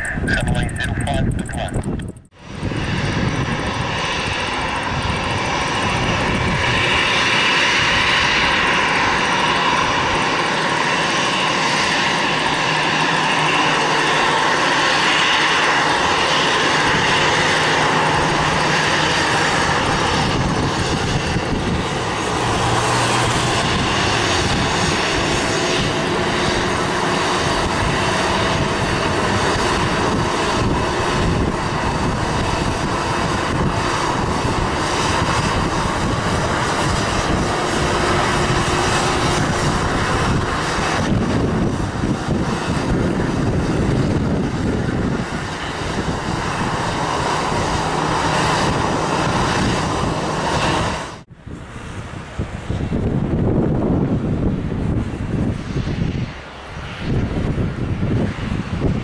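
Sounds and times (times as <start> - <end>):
jet engine whine and rumble: 0.0 - 59.0.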